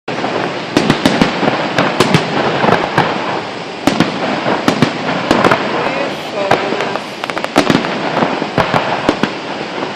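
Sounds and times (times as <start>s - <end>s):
firework bangs: 0.1s - 9.9s
fireworks crackling: 0.1s - 9.9s.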